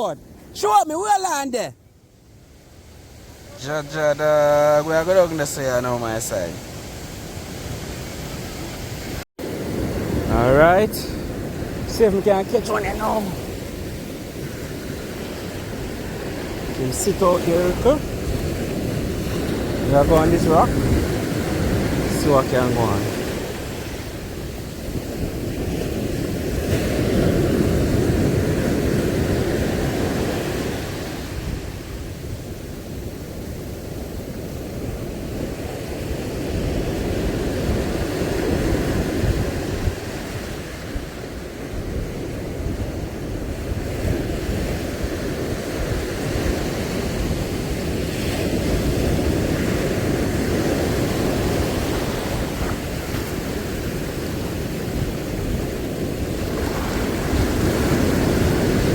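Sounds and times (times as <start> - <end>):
sea surf washing in: 0.0 - 58.9
wind rumbling on microphone: 6.4 - 58.9.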